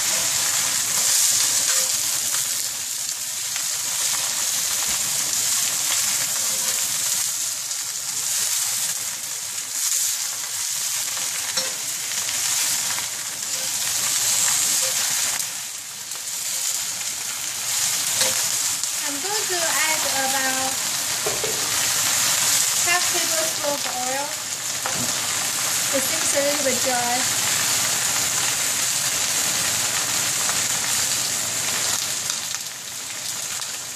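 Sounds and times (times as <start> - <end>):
cabbage sizzling in hot oil: 0.0 - 33.9.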